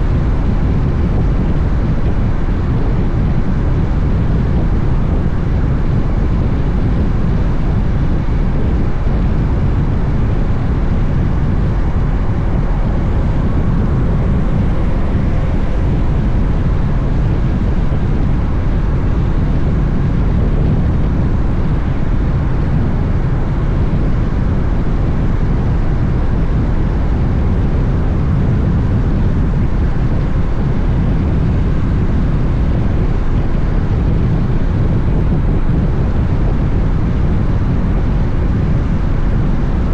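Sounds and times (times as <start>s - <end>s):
motorcycle engine and road rumble: 0.0s - 39.9s
wind rushing over microphone: 0.0s - 39.9s.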